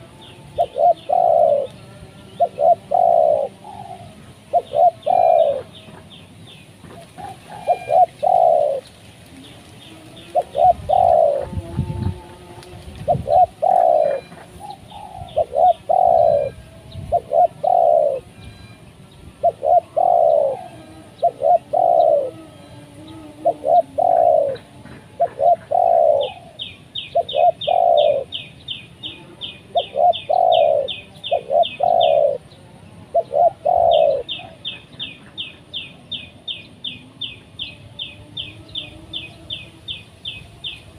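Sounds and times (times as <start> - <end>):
dove cooing: 0.0 - 37.2.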